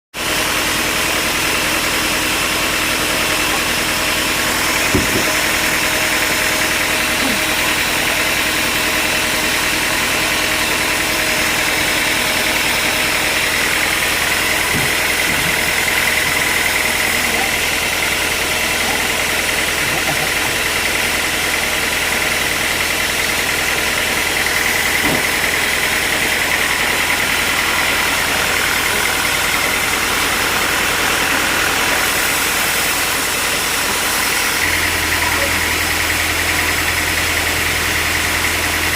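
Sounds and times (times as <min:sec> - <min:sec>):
high machinery whine: 0:00.2 - 0:38.9
motor hum: 0:00.2 - 0:38.9.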